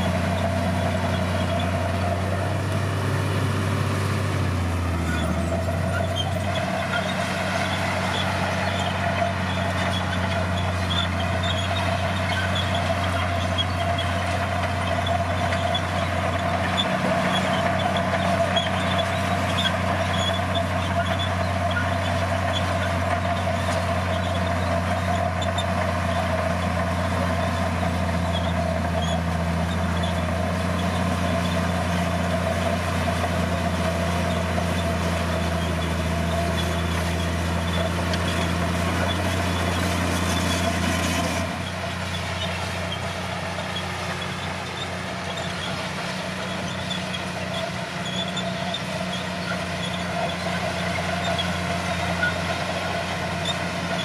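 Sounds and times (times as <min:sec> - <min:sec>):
blade pushing soil: 0:00.0 - 0:54.0
bulldozer diesel engine running: 0:00.0 - 0:54.0.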